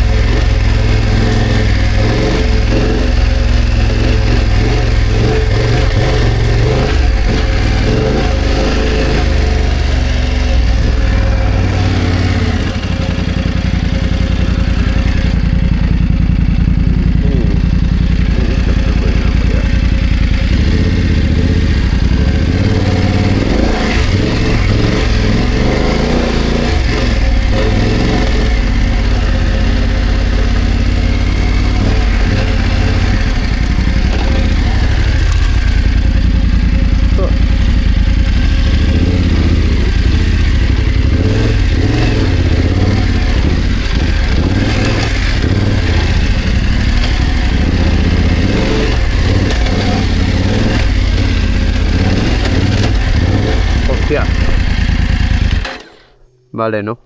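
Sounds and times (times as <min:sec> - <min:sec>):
knocks and rattles: 0:00.0 - 0:56.0
motorcycle engine revving: 0:00.0 - 0:56.6.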